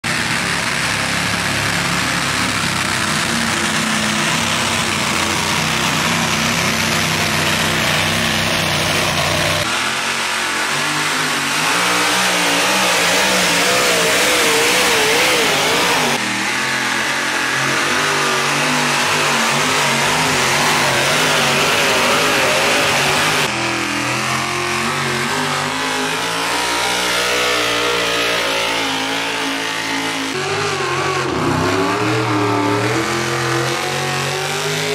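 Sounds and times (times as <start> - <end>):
engines at full throttle: 0.0 - 34.9.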